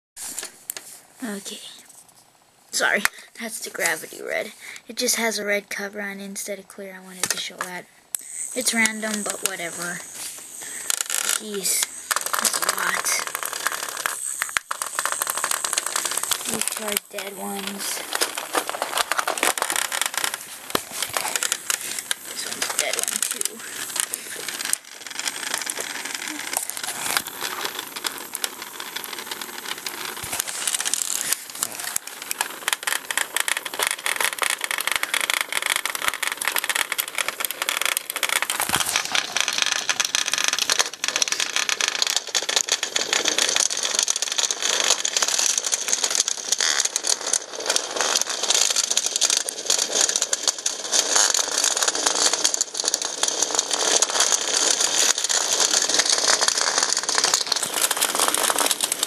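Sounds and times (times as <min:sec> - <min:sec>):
toy bugs buzzing and rattling on plastic: 0:02.8 - 0:59.0.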